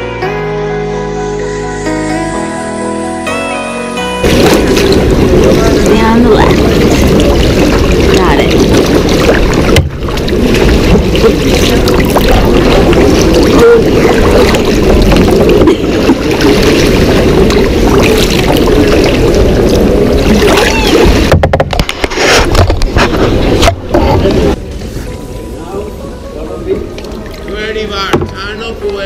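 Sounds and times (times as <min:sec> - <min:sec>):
kayak paddling: 0:04.2 - 0:29.0
muffled rush of water: 0:04.2 - 0:29.0.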